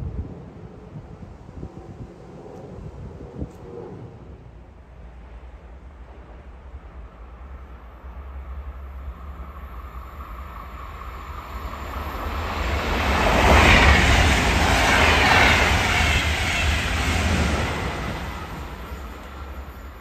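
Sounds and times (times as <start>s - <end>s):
train passing through station: 0.0s - 20.0s.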